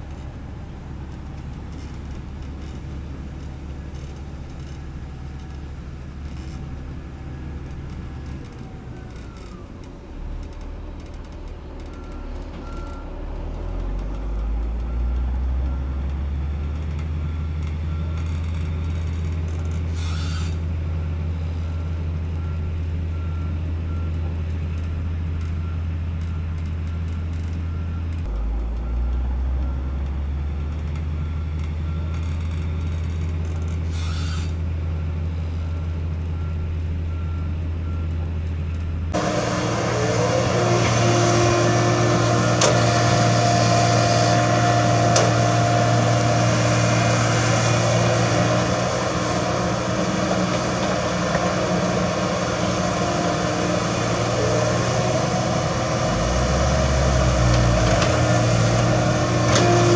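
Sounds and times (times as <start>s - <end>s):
reversing alarm beeping: 0.0s - 38.4s, 39.0s - 59.9s
motor grader diesel engine: 0.0s - 59.9s.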